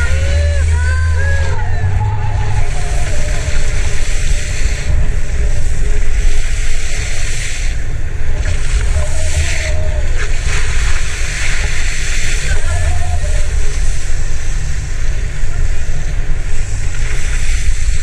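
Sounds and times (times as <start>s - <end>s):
water spray and splashing: 0.0s - 18.0s
wind buffeting microphone: 0.0s - 18.0s.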